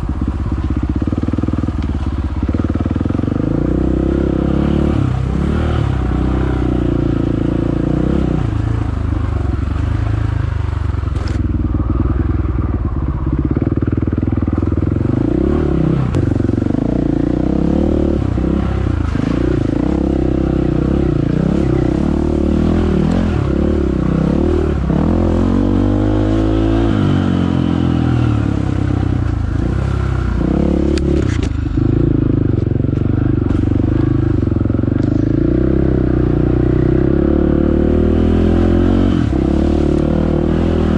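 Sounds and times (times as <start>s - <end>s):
dirt bike engine revving: 2.4s - 10.4s, 13.6s - 40.9s.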